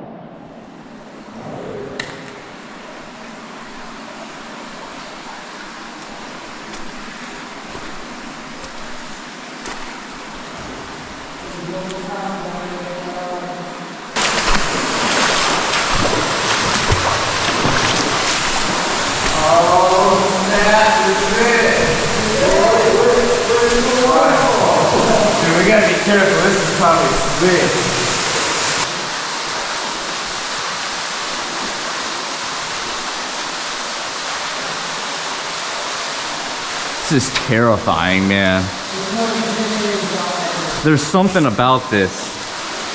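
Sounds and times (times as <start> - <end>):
rushing waterfall: 2.0 - 42.9.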